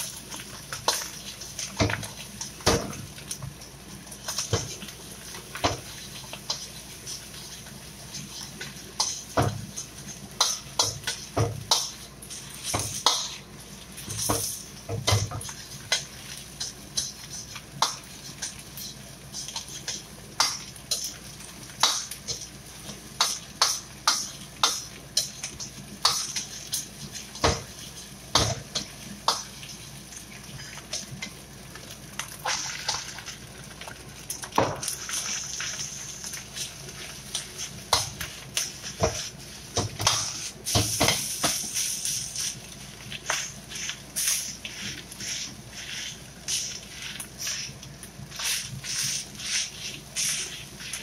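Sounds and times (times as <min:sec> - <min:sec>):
food sizzling: 0:00.0 - 0:51.0.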